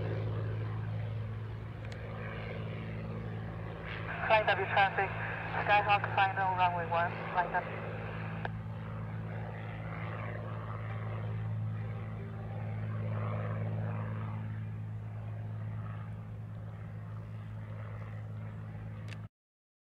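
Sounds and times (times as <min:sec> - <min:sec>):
propeller plane engine droning: 0:00.0 - 0:19.3.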